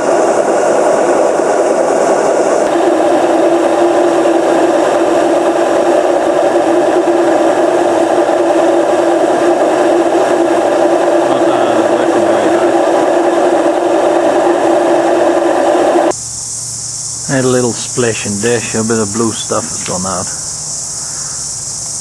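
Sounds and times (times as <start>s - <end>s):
mechanical rumble: 0.0s - 22.0s
washing machine motor whine: 0.0s - 22.0s.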